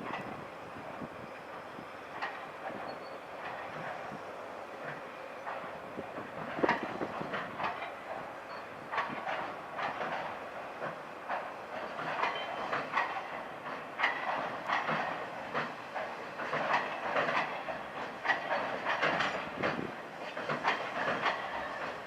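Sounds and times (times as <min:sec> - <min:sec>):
train rumble: 0:00.0 - 0:22.0
train wheels clacking over joints: 0:00.0 - 0:22.0.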